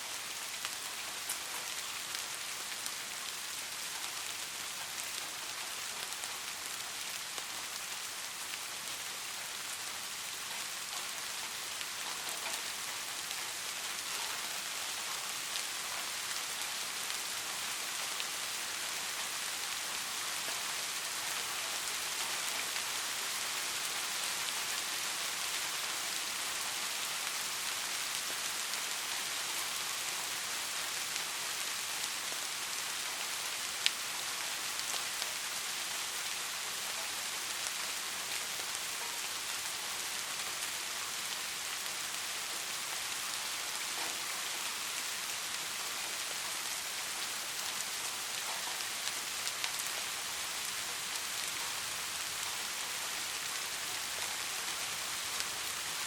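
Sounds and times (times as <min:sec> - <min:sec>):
soft rain pattering: 0:00.0 - 0:56.0.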